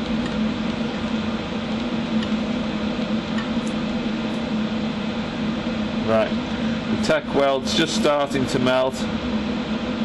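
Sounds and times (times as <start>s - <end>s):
welder hum: 0.0s - 10.0s.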